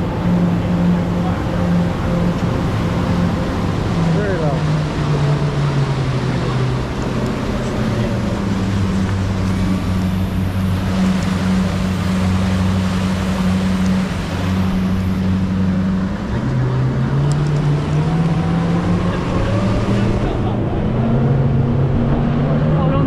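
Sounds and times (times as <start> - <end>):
boat engine running: 0.0 - 23.0
wind and water rushing: 0.0 - 23.0.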